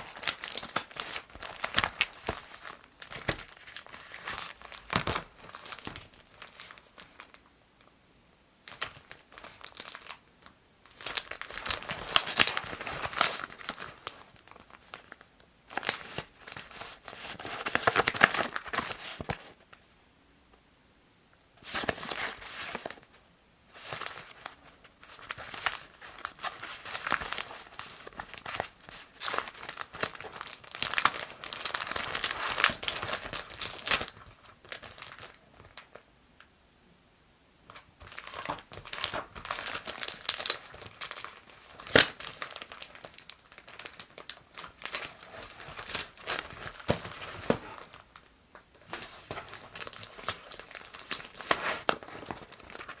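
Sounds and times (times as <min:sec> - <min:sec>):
paper rustling and crinkling: 0:00.0 - 0:07.4, 0:08.7 - 0:10.2, 0:10.9 - 0:19.8, 0:21.6 - 0:36.0, 0:37.7 - 0:53.0.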